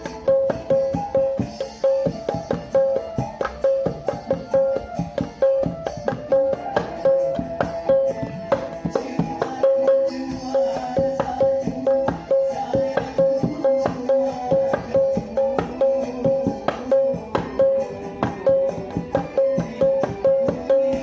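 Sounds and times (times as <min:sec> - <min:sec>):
paint can drummed by hand: 0:00.0 - 0:21.0.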